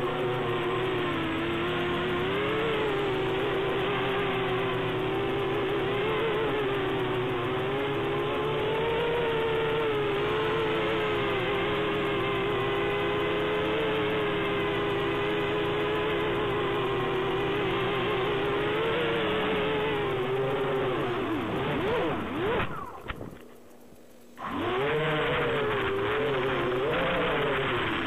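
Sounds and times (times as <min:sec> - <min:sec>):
drone motors and propellers whining: 0:00.0 - 0:28.0.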